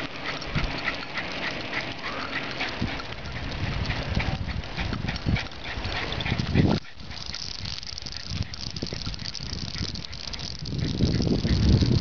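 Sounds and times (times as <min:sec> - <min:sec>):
low rumble of tyres and wind: 0:00.0 - 0:12.0
dog claws clicking on asphalt: 0:00.1 - 0:12.0.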